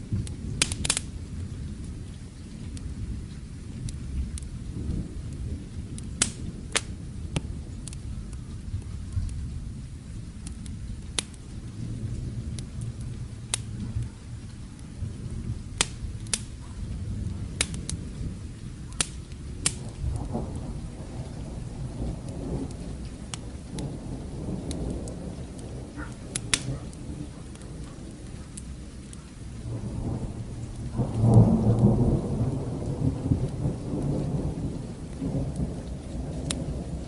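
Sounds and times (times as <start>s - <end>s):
distant thunder rumbling: 0.0s - 37.0s
log fire crackling and popping: 0.0s - 37.0s
steady rain: 0.0s - 37.0s.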